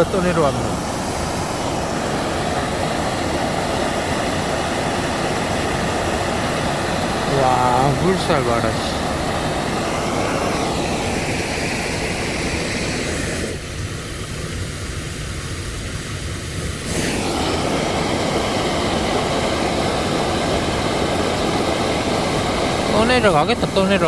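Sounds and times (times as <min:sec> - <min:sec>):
floodwater rushing through ditch: 0:00.0 - 0:15.4, 0:16.2 - 0:24.0.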